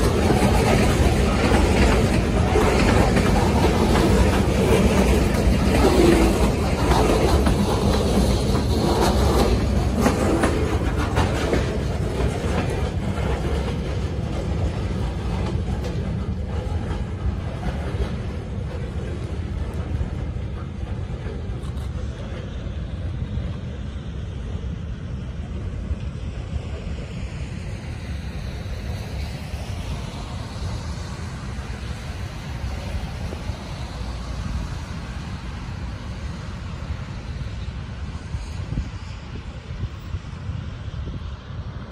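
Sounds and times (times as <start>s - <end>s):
train wheels clicking on rails: 0.0s - 41.9s.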